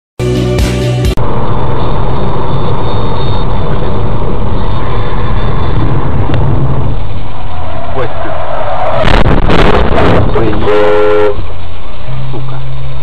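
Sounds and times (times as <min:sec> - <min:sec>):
vehicle engine and road noise: 0:00.2 - 0:13.0.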